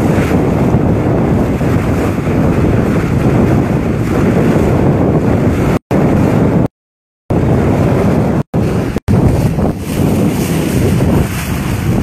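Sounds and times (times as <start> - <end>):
heavy wind buffeting microphone: 0.0 - 6.7, 7.3 - 12.0.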